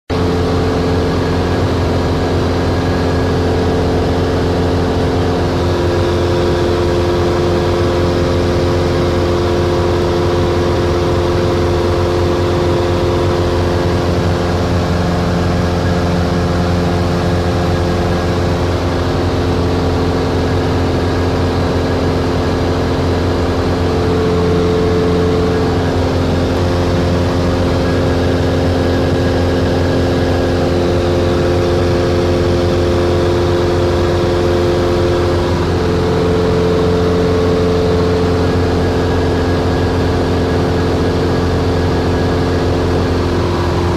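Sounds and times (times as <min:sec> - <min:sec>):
airplane engine and propeller droning: 0:00.1 - 0:43.9.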